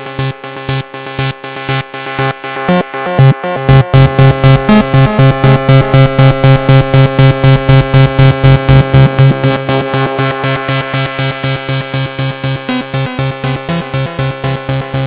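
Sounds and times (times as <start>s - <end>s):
synthesizer pulsed notes: 1.6s - 15.0s.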